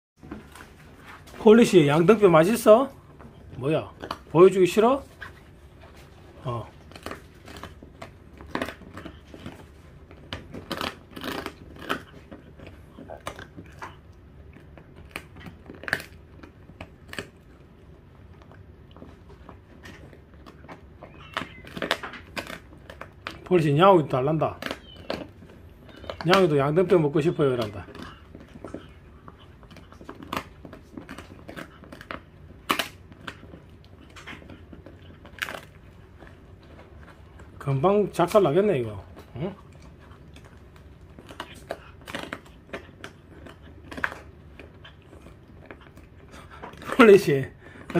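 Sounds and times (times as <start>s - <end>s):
dog chewing bone: 0.2s - 47.9s.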